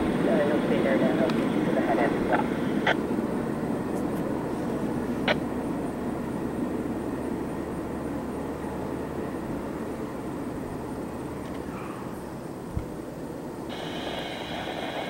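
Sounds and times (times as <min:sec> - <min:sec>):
freight train rumbling on rails: 0:00.0 - 0:15.0.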